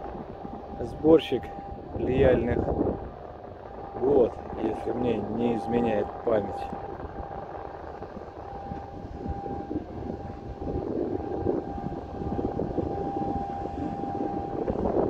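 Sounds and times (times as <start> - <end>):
boat engine rumble with high whine: 0.0 - 15.0.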